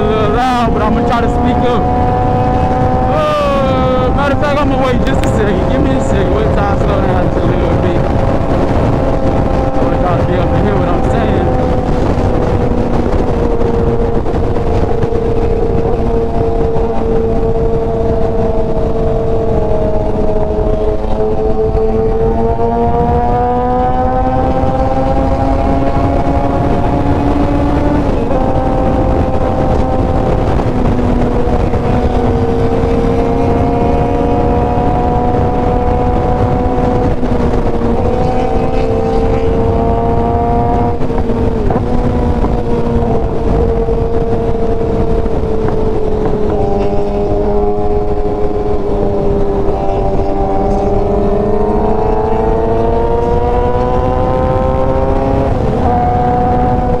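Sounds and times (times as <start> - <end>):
motorcycle engine cruising: 0.0 - 57.0
wind noise: 0.0 - 57.0.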